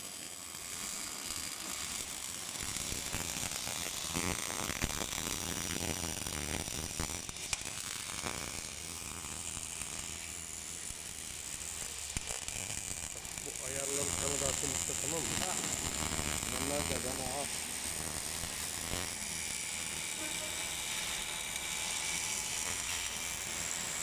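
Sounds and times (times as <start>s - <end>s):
welding arc sizzling: 0.0s - 24.0s.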